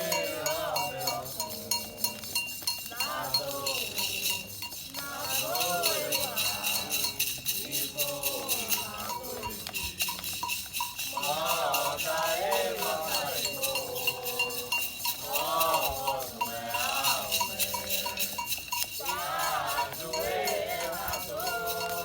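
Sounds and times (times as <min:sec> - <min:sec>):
metal bell struck in rhythm: 0:00.0 - 0:22.0
rattles shaken: 0:00.0 - 0:22.0
voices singing a chant: 0:00.0 - 0:22.0.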